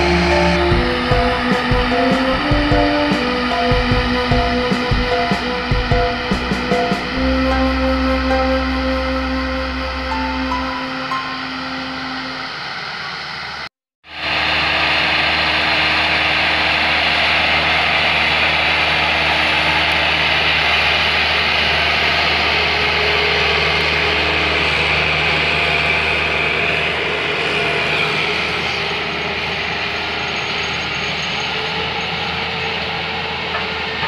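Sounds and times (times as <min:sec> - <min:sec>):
diesel roller engine running: 0:00.0 - 0:34.0.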